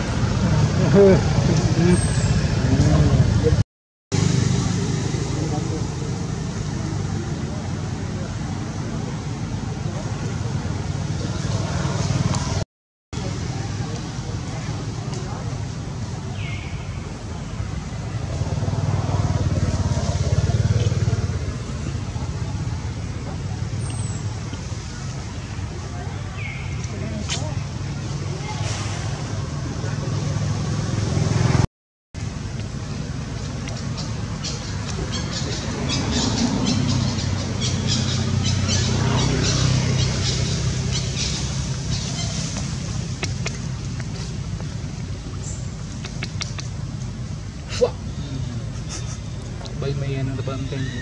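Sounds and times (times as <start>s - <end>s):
vehicle engine rumbling: 0.0s - 12.6s, 13.2s - 51.0s.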